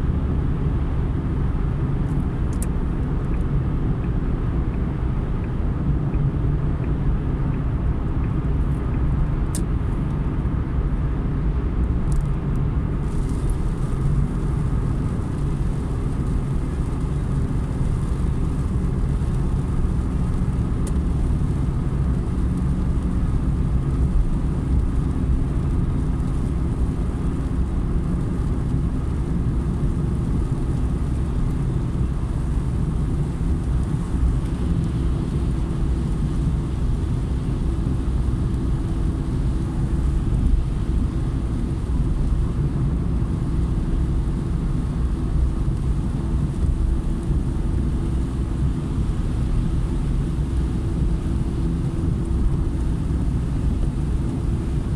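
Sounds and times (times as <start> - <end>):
car driving on wet road: 0.0 - 54.9.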